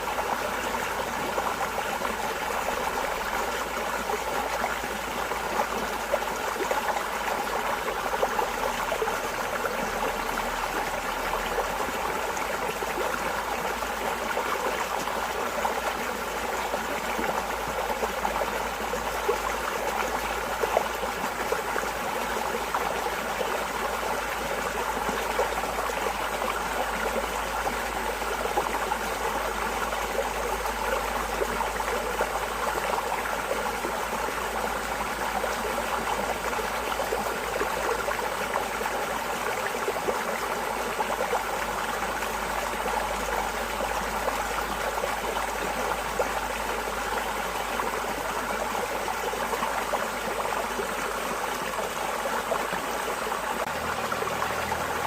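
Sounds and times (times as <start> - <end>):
stream water trickling: 0.0 - 55.0.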